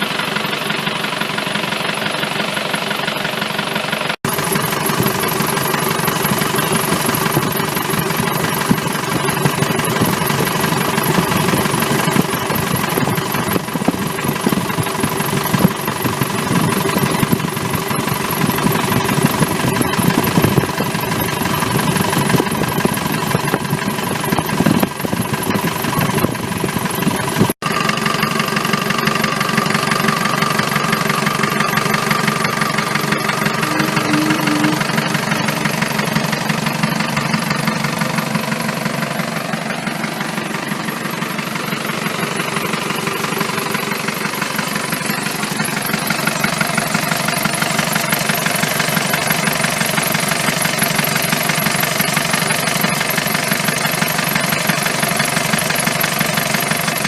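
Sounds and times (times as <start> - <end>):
engine idling with knocking clatter: 0.0 - 57.0.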